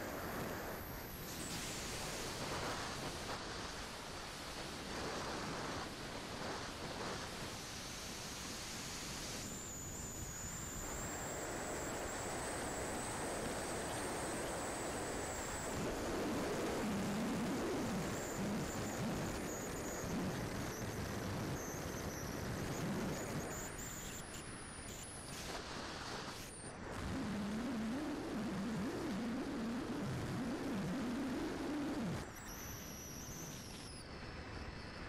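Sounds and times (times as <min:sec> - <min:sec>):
high motor whine: 0:00.0 - 0:35.0.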